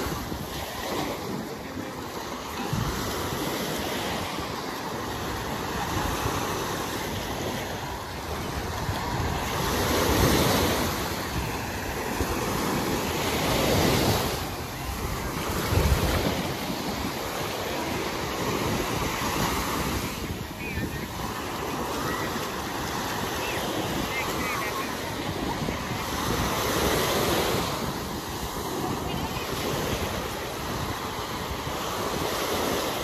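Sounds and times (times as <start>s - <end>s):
wind noise on microphone: 0.0s - 1.6s, 2.2s - 33.0s
small waves breaking on sand: 0.0s - 33.0s.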